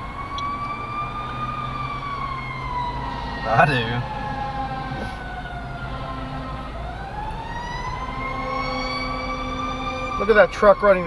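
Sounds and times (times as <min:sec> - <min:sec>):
fire truck siren wailing: 0:00.0 - 0:11.0
low engine hum: 0:00.0 - 0:11.0.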